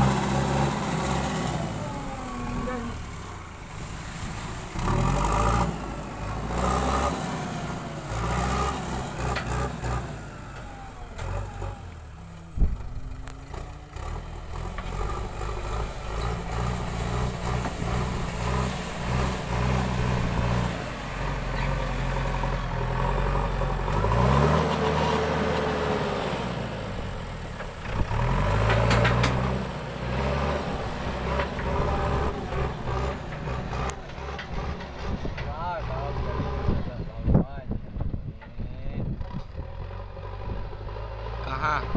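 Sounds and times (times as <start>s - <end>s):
diesel engine working under load: 0.0s - 41.9s.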